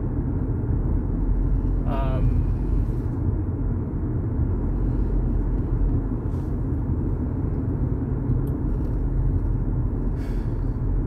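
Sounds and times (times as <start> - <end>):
car engine rumble from inside: 0.0 - 11.0
road noise: 0.0 - 11.0.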